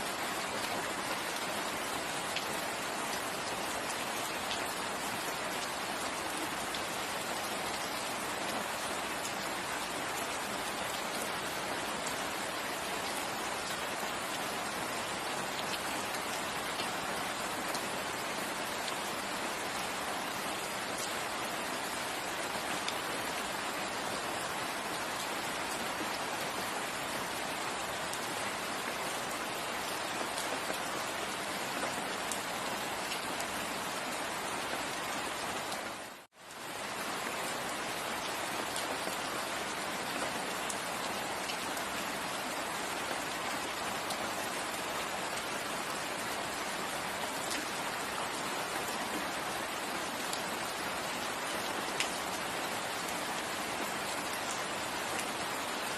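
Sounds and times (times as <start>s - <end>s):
rain pattering on foliage: 0.0s - 55.9s.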